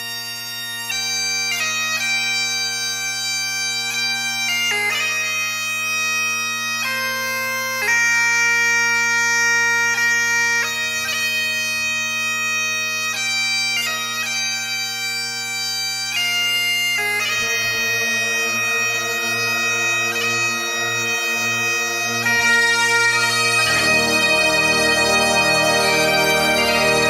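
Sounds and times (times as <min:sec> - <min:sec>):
bagpipes playing slow melody: 0:00.0 - 0:27.0.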